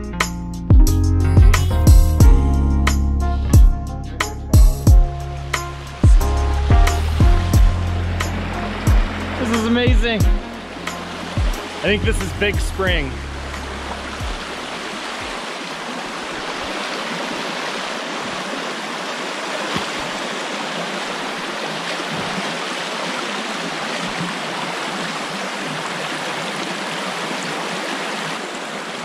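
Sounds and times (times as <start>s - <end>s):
water rushing over rocks: 5.7s - 29.0s.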